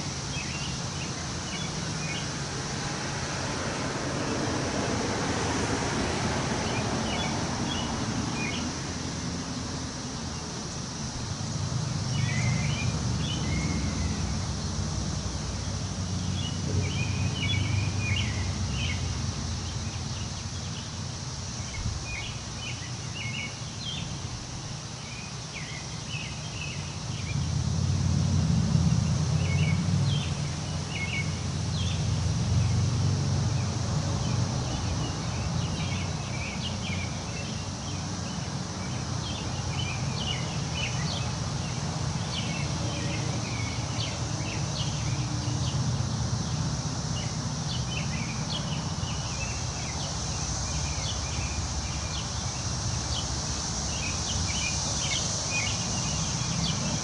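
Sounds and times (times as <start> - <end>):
small birds chirping: 0.0 - 2.9, 6.6 - 8.8, 9.8 - 27.6, 29.2 - 32.8, 33.5 - 57.0
wind gusting through trees: 0.0 - 57.0.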